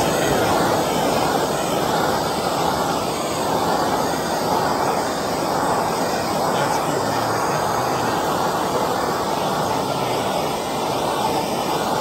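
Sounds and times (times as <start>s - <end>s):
gas torch flame burning: 0.0s - 12.0s.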